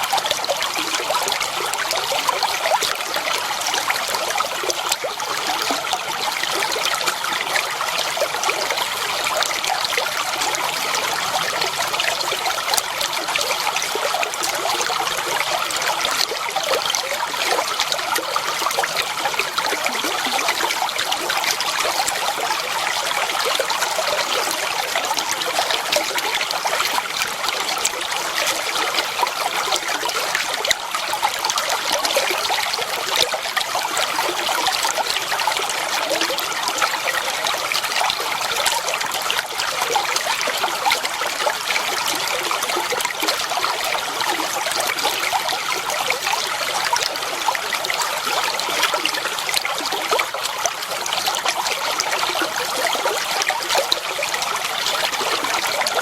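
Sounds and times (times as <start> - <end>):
water trickling over stones: 0.0 - 56.0.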